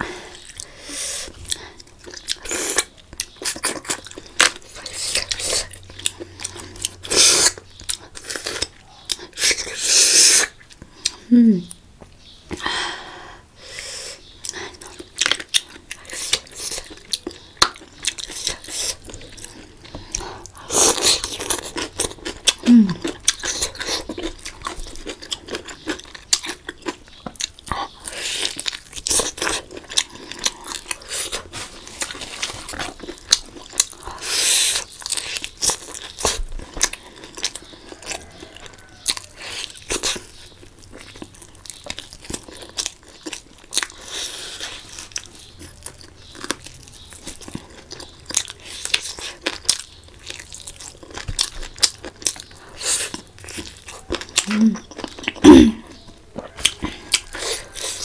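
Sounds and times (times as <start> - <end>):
chewing and crunching: 0.0 - 11.3, 13.8 - 58.0.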